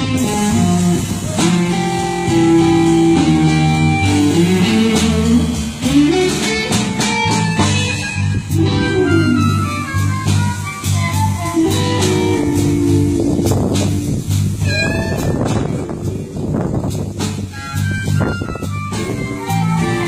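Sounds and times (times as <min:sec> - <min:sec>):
blues band playing: 0:00.0 - 0:20.0
guitar sliding notes: 0:00.0 - 0:20.0.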